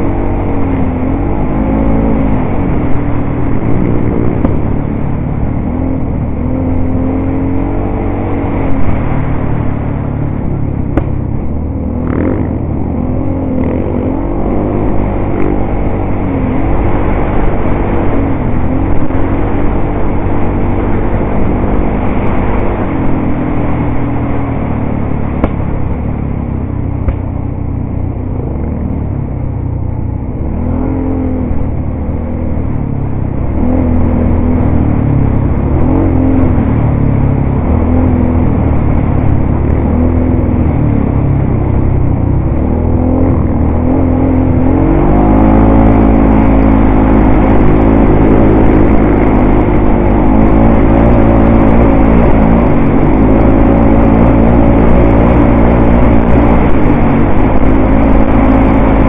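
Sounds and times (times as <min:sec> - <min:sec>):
quad bike engine revving: 0:00.0 - 0:26.3, 0:30.6 - 0:59.0.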